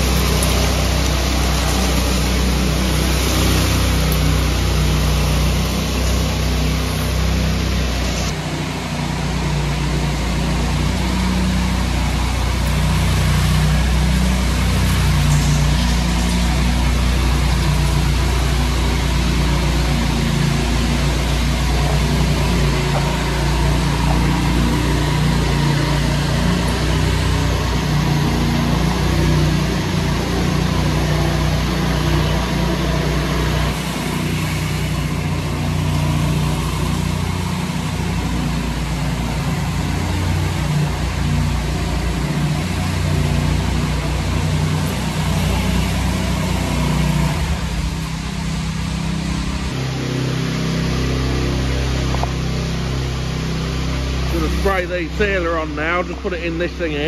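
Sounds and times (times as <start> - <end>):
power trowel engines running: 0.0 - 57.0.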